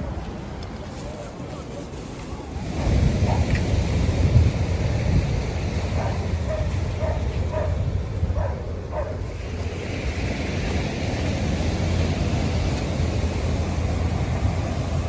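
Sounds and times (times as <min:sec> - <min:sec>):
beach surf: 0:00.0 - 0:15.0
wind buffeting microphone: 0:02.3 - 0:15.0.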